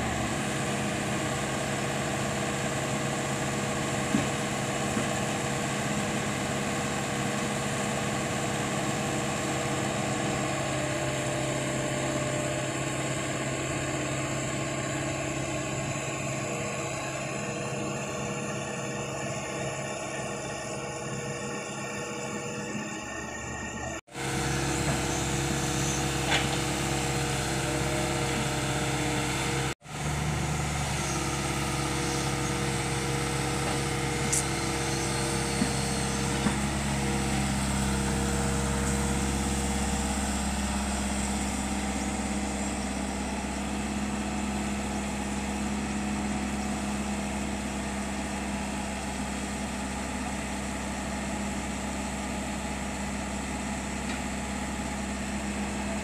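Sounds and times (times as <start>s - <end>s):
diesel excavator engine running: 0.0s - 56.0s.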